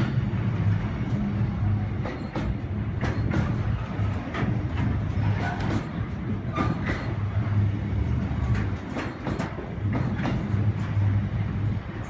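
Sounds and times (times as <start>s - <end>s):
freight train rumbling past: 0.0s - 12.0s
wheels clicking on track: 0.0s - 12.0s.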